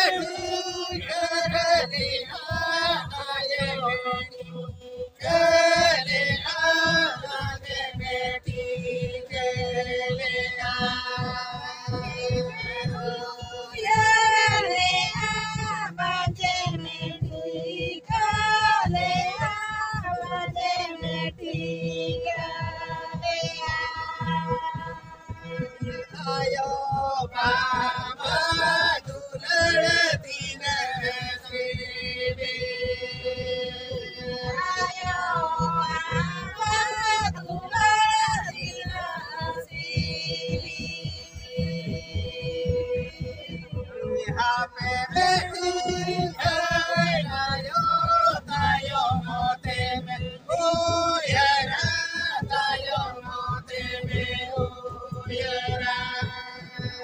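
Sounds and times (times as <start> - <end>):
low pulsing beat: 0.0 - 57.0
men singing together: 0.0 - 57.0.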